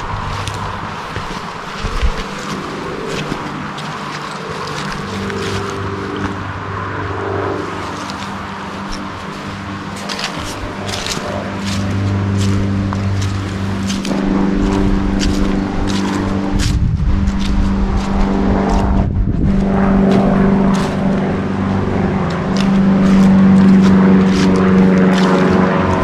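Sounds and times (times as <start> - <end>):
engine droning: 0.0 - 26.0
footsteps on path: 0.0 - 26.0.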